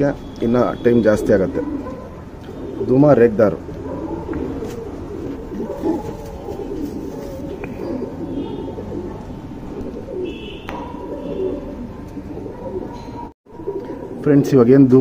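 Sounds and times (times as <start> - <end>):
pigeons cooing: 0.9 - 15.0.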